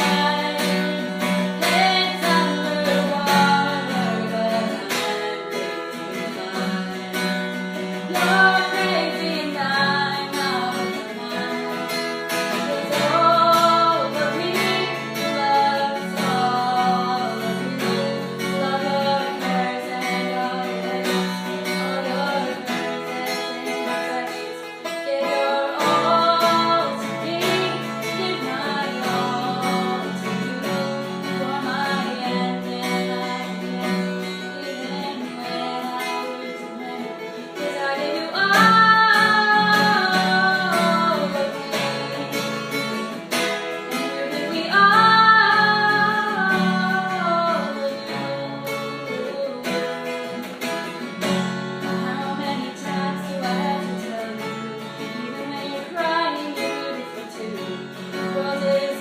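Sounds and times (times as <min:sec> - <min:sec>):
acoustic guitar: 0:00.0 - 0:59.0
person singing: 0:00.0 - 0:59.0.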